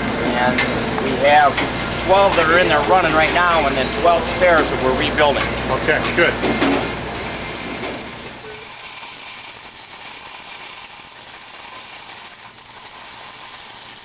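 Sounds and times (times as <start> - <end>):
welding arc crackling hiss: 0.0 - 14.0.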